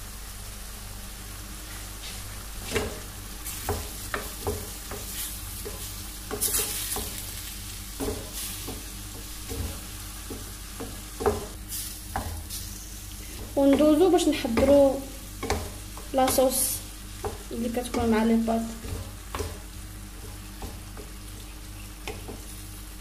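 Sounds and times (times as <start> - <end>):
meat sizzling: 0.0 - 23.0.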